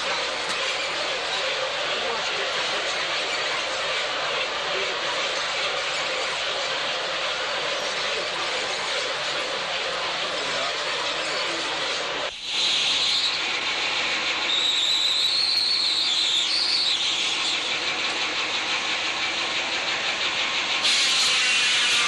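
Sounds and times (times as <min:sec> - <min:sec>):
high saw whine: 0:00.0 - 0:22.0
sawmill machinery running: 0:00.0 - 0:22.0.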